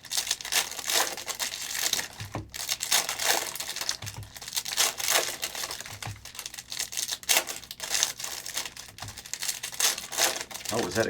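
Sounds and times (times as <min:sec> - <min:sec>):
plastic wrappers crinkling and tearing: 0:00.0 - 0:11.0.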